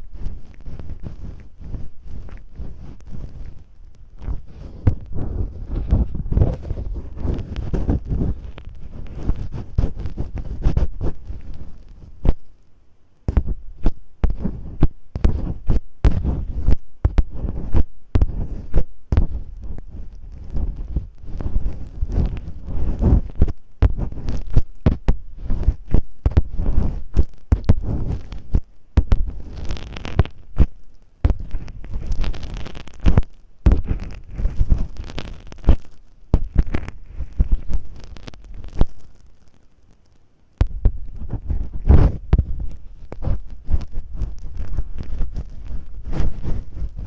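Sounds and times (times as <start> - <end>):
tape scratching on microphone: 0.0 - 12.6, 13.2 - 47.0.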